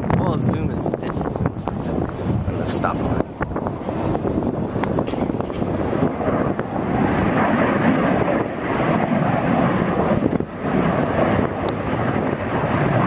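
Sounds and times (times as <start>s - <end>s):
jet plane rumble: 0.0s - 13.0s
wind buffeting microphone: 0.0s - 13.0s.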